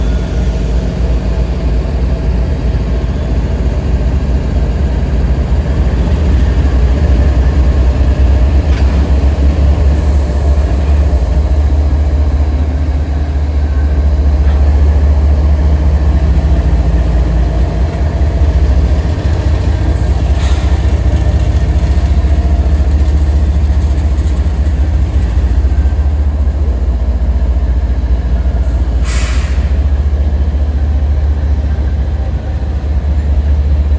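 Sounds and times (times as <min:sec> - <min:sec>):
diesel locomotives rumbling: 0:00.0 - 0:33.9.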